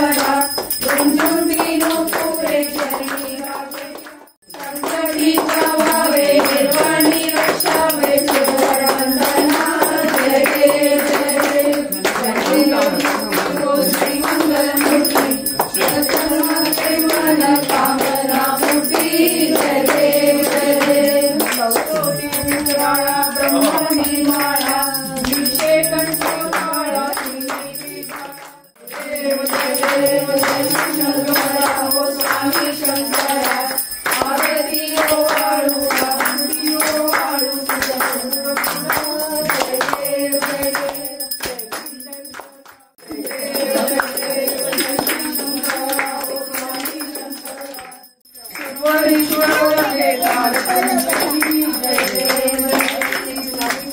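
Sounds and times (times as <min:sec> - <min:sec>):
devotional singing over beat: 0:00.0 - 0:53.9.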